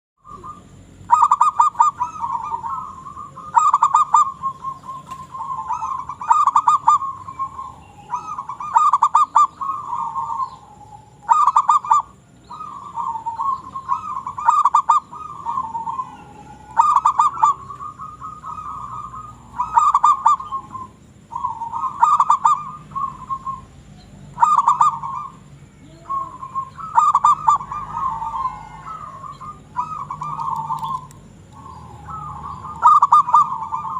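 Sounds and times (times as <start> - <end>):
dove cooing: 0.2 - 33.9.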